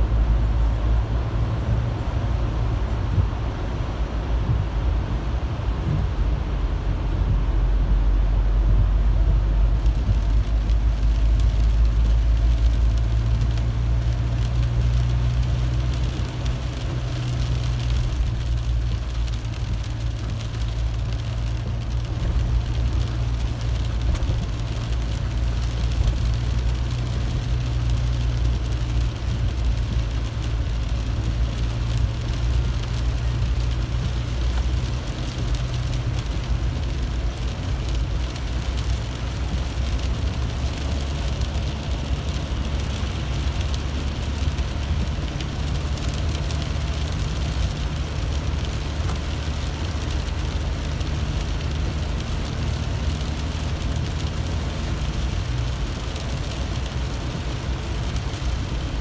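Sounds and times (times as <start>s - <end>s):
car engine and road drone: 0.0s - 59.0s
rain and wet tyres hiss: 0.0s - 59.0s.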